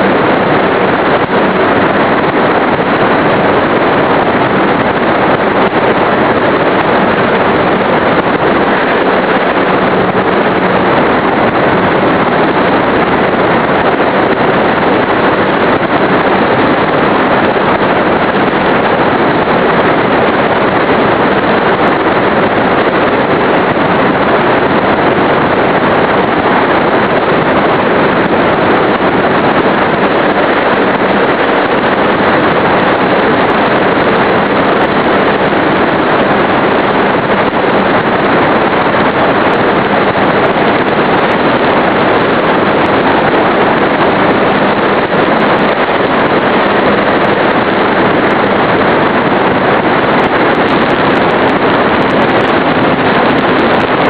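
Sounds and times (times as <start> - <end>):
wind rush: 0.0 - 54.0.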